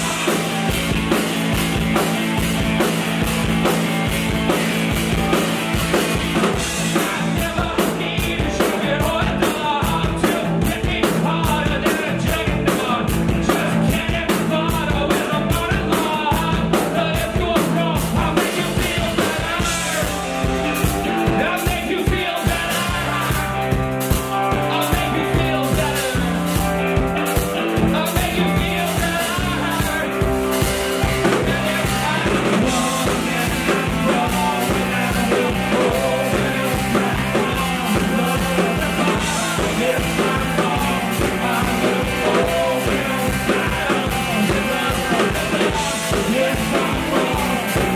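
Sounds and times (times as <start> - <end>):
person singing: 0.0 - 1.5, 4.3 - 47.9
drum kit beat: 0.0 - 47.9
electric guitars: 0.0 - 47.9.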